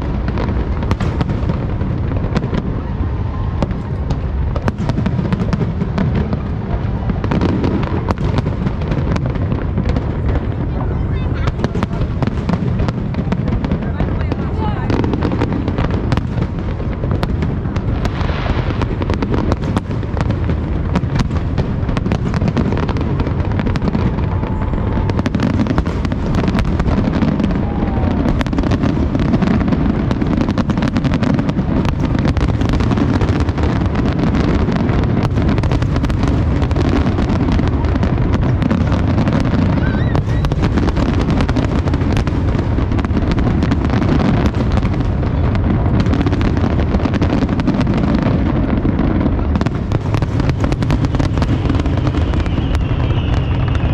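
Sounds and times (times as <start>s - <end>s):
fireworks blasts rumbling: 0.0s - 53.9s
fireworks crackling pops: 0.0s - 53.9s.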